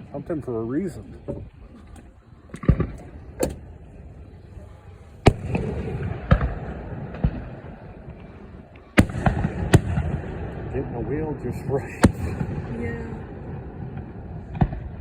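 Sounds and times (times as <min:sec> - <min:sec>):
low rumbling echo: 0:00.0 - 0:15.0
fireworks bursting with sharp bangs: 0:02.4 - 0:15.0.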